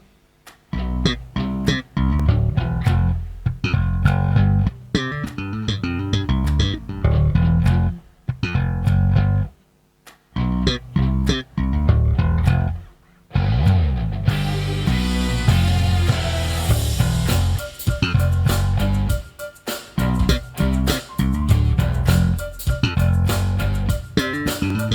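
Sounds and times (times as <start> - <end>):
plucked bass guitar notes: 0.7 - 9.6, 10.4 - 19.3, 20.0 - 24.9.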